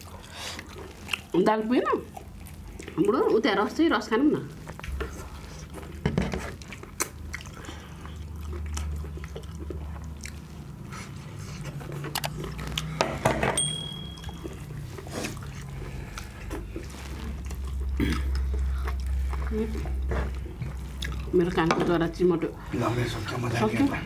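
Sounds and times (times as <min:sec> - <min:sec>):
people chewing: 0:00.0 - 0:24.0
steady low hum: 0:02.0 - 0:24.0.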